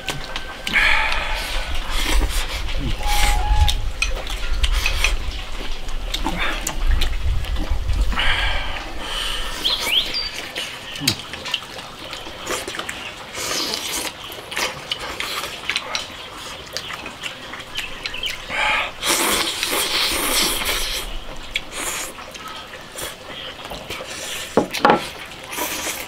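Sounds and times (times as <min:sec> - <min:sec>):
people slurping and chewing: 0:00.0 - 0:26.0.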